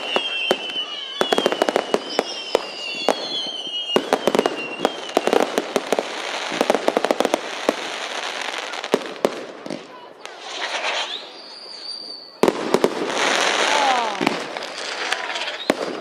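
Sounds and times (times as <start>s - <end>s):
crackling firework hiss: 0.0s - 16.0s
firework bangs and cracks: 0.0s - 16.0s
whistling fireworks: 0.0s - 16.0s.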